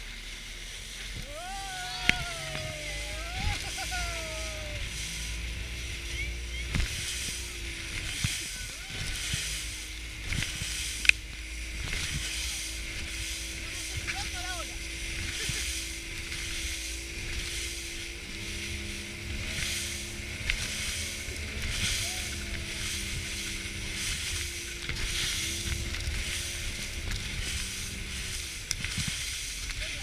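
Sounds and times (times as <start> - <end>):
outboard motor running: 0.0 - 30.0
wind hiss: 0.0 - 30.0
water spray rushing: 0.3 - 30.0.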